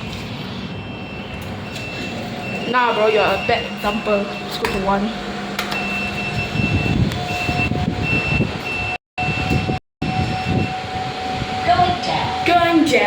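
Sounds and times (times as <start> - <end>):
lift electronic beeping: 0.0 - 13.0.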